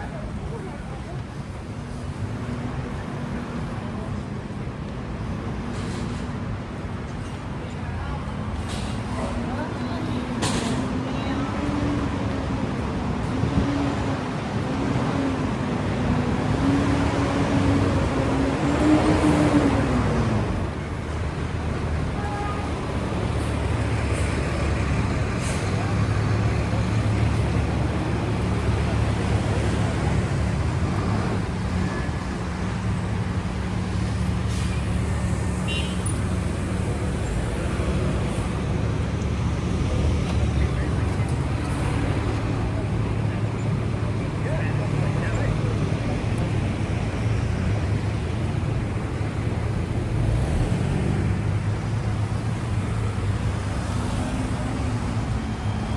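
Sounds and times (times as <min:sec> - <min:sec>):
traffic rumble: 0:00.0 - 0:55.9
vehicle engines droning: 0:00.0 - 0:55.9
voices of passers-by: 0:00.0 - 0:55.9.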